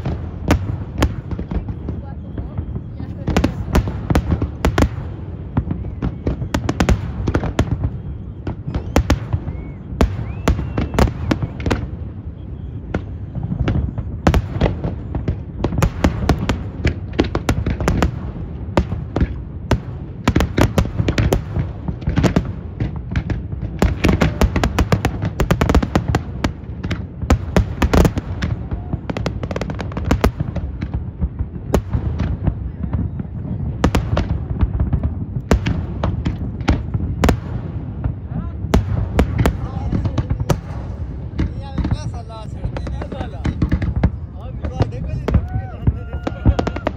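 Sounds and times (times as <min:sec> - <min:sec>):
fireworks bursting and crackling: 0:00.0 - 0:46.9.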